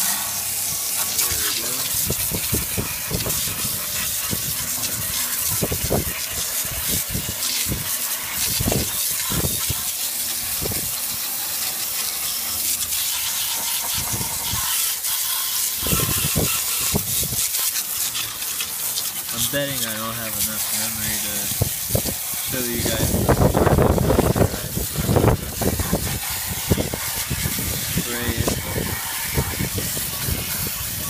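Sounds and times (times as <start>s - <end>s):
water jet spraying with hiss: 0.0s - 31.0s.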